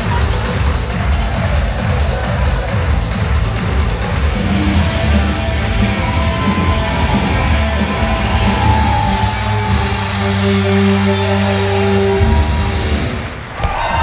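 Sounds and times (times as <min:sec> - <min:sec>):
rock music with electric guitar: 0:00.0 - 0:13.3.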